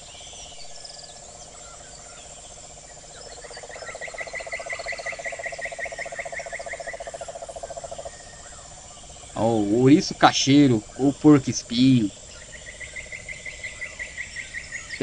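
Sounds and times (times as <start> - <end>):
insects pulsing trill: 0.0 - 15.0
louder insect trill: 0.0 - 15.0.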